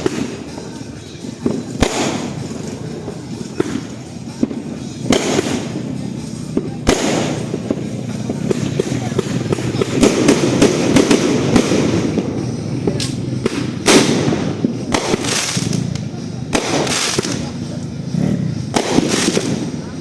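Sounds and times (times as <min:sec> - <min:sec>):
fireworks cake firing: 0:00.0 - 0:20.0
fireworks crackling: 0:00.0 - 0:20.0
loud firework bangs: 0:00.0 - 0:20.0.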